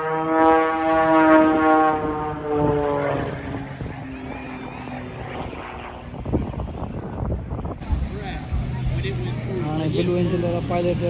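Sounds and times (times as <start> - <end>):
propeller airplane passing overhead: 0.0 - 11.0.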